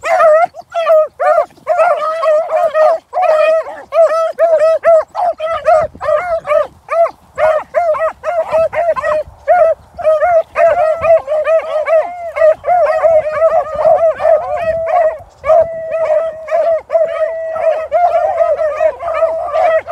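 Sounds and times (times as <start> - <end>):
dog barking and yipping: 0.0 - 19.9
dog howling: 0.0 - 19.9.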